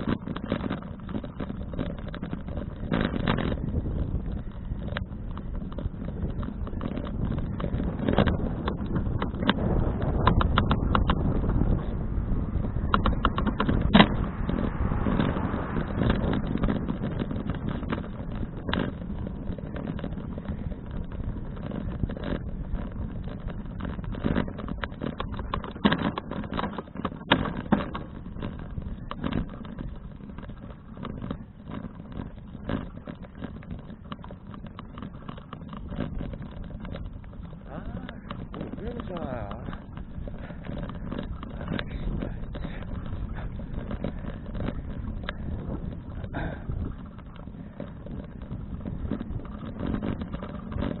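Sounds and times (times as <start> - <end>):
bike and camera mount rattling: 0.0 - 51.0
wind buffeting microphone: 0.0 - 51.0.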